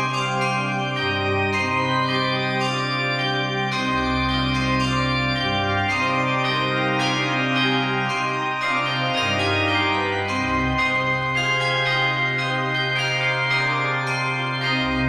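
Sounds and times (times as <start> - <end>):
church bells pealing: 0.0 - 15.0
organ-like chords: 0.0 - 15.0.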